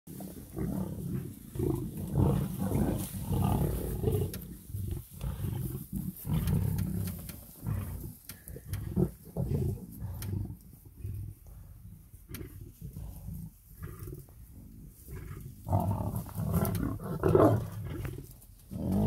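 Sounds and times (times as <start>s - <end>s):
lions snarling and growling: 0.1s - 19.0s.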